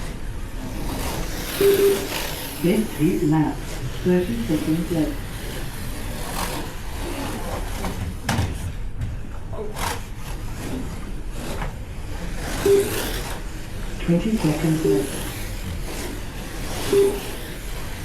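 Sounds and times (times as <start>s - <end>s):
slot car motors whirring: 0.0s - 8.3s, 9.6s - 18.0s.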